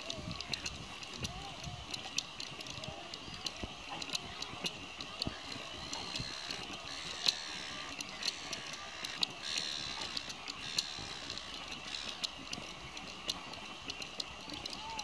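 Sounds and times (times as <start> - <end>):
footsteps on boardwalk: 0.0 - 15.0.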